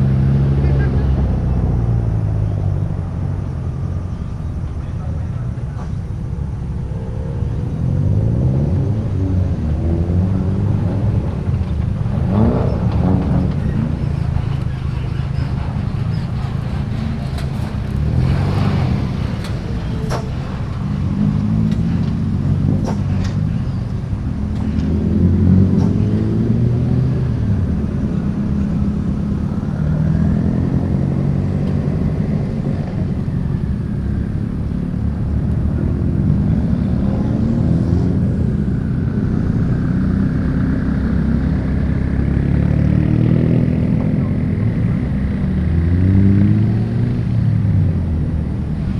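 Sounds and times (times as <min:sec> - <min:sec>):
cars accelerating past: 0:00.0 - 0:48.9.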